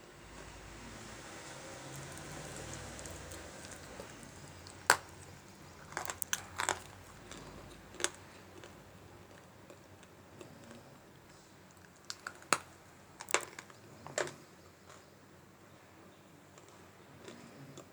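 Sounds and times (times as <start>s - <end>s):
dry clay crunching when chewed: 0.2s - 15.1s, 16.6s - 17.9s.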